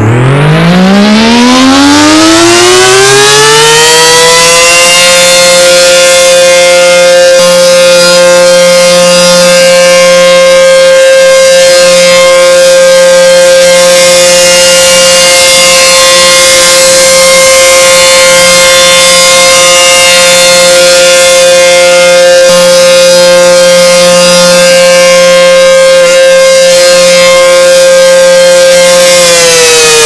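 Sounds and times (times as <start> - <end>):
steady siren: 0.0 - 30.0.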